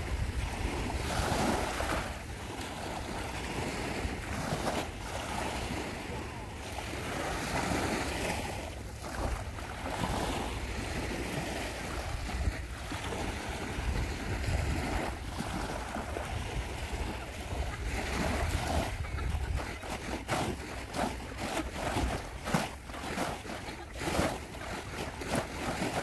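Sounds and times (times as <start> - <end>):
wind on microphone: 0.0 - 22.6
small waves washing: 0.0 - 26.0.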